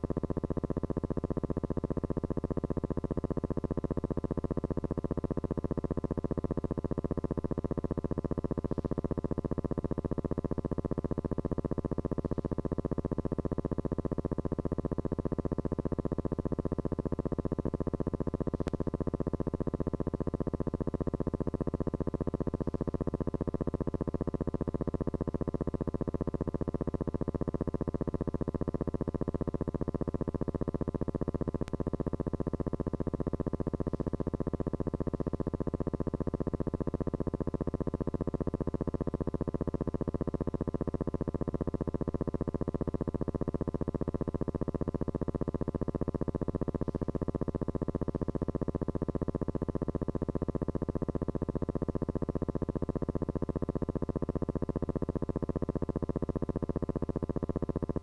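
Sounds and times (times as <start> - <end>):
pulsing buzz with low hum: 0.0 - 58.0.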